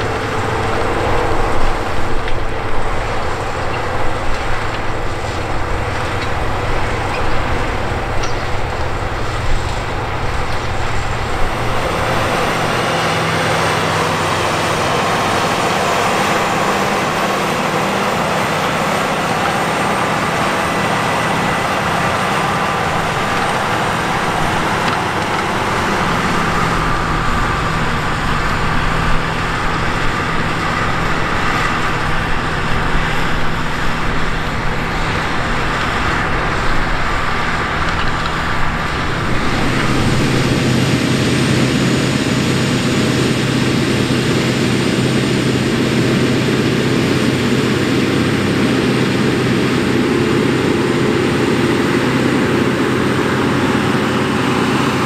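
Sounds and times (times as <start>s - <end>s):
harrow discs clattering in soil: 0.0s - 44.6s
diesel engine under load: 0.0s - 55.0s.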